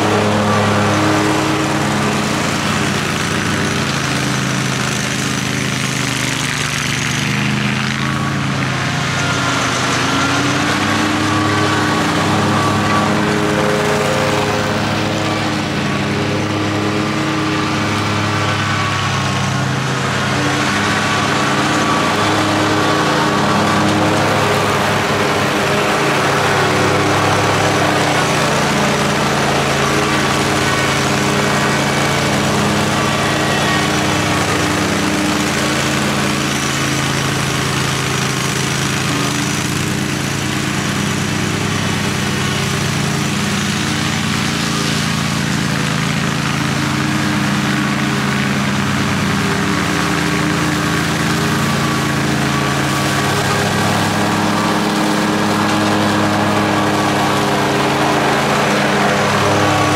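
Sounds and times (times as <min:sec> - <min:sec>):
lawn mower engine droning: 0:00.0 - 0:59.9.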